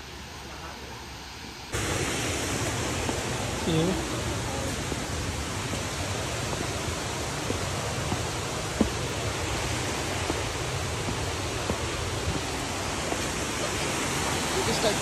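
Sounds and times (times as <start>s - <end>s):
falling water rushing: 1.6s - 15.0s
footsteps on concrete steps: 1.8s - 15.0s.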